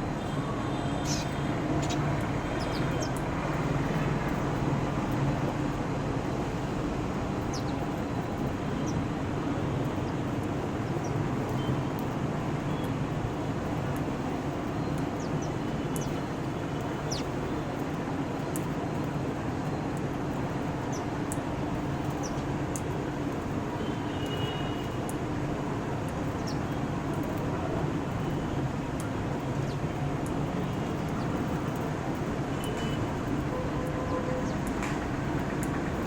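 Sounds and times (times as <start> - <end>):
low rumble of traffic: 0.0 - 36.0.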